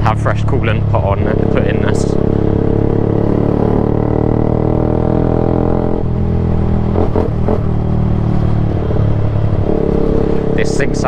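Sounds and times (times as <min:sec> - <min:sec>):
motorcycle engine running loud: 0:00.0 - 0:11.0.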